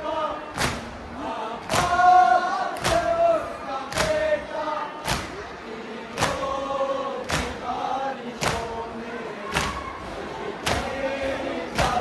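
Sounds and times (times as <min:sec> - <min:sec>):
voices chanting a sung lament: 0:00.0 - 0:12.0.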